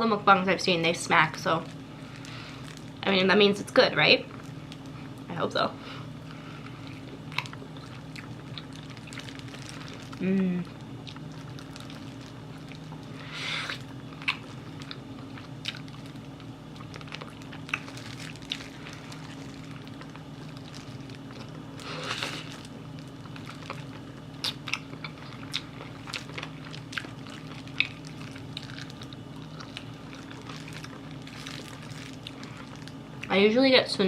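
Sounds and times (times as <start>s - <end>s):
steady low hum: 0.0s - 34.0s
chewing and crunching: 1.5s - 3.0s, 6.3s - 33.4s.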